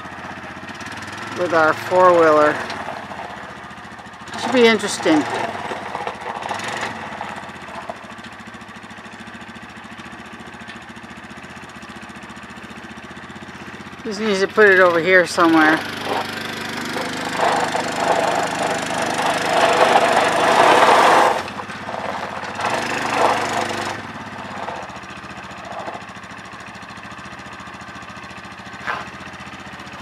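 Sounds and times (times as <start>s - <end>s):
atv engine revving: 0.0s - 30.0s
tyres crackling on gravel: 0.0s - 30.0s.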